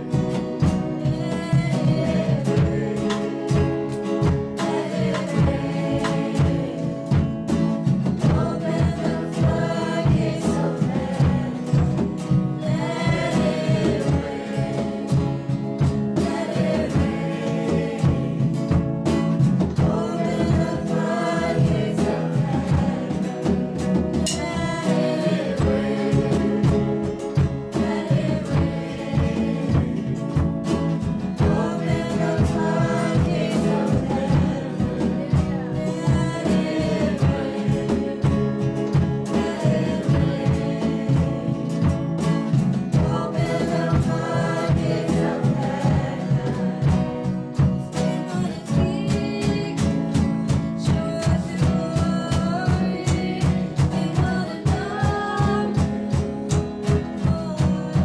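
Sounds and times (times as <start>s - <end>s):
drum kit beat: 0.0s - 58.0s
second guitar: 0.0s - 58.0s
strummed acoustic guitar: 0.0s - 58.0s
woman singing: 0.0s - 58.0s.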